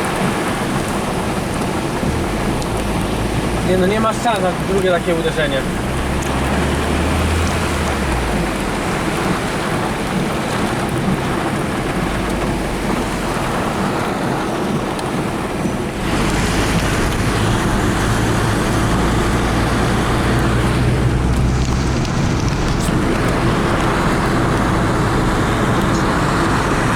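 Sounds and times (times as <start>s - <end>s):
heavy rain: 0.0s - 26.9s
road noise: 0.0s - 26.9s.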